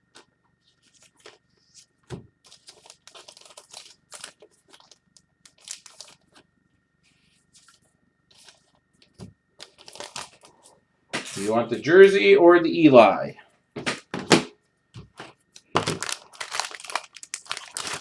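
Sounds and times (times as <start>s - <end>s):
crinkling and scraping handling: 0.0s - 11.8s, 15.0s - 18.0s.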